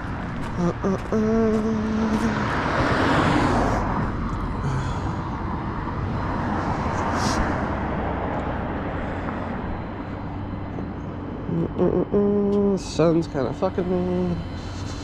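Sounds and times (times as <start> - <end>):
road rumble: 0.0 - 15.0
vehicle passing: 0.0 - 15.0.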